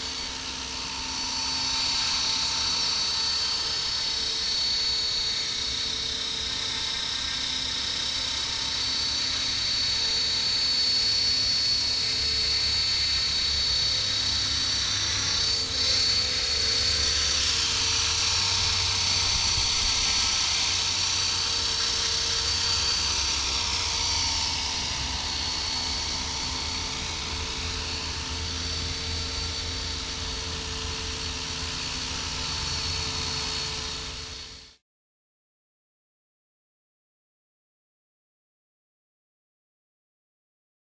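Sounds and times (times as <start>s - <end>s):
high-pitched motor whine: 0.0s - 34.8s
low rotor hum: 0.0s - 34.8s.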